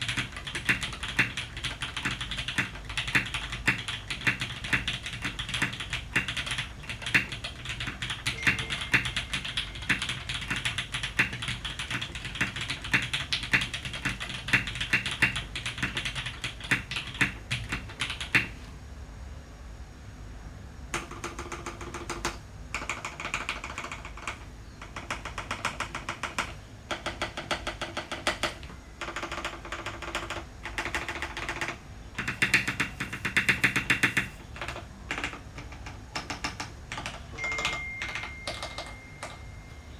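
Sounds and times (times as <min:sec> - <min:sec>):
typing on mechanical keyboard: 0:00.0 - 0:18.6, 0:21.0 - 0:39.4.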